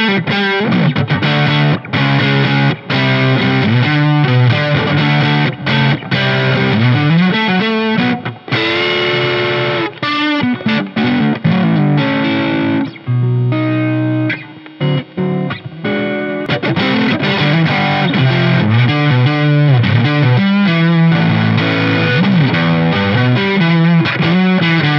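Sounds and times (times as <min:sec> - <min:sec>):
electric guitar playing: 0:00.0 - 0:24.9.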